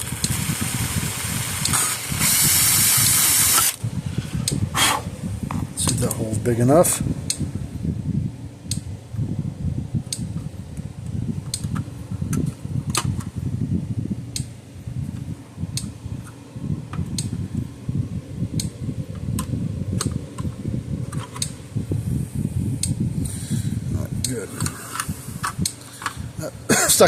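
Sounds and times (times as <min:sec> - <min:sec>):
fan-like whir: 0:00.0 - 0:27.0.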